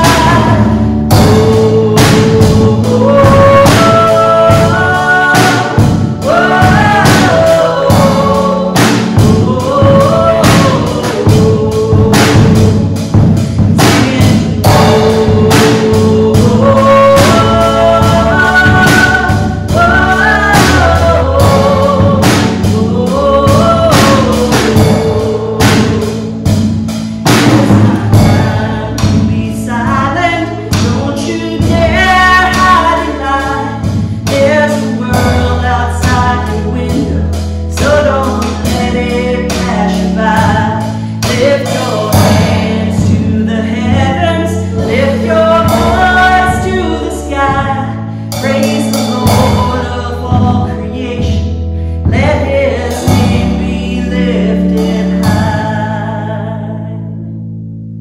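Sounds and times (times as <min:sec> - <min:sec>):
woman singing: 0:00.0 - 0:26.6, 0:27.3 - 0:57.4
band playing: 0:00.0 - 0:56.2
drum kit: 0:00.0 - 0:56.5.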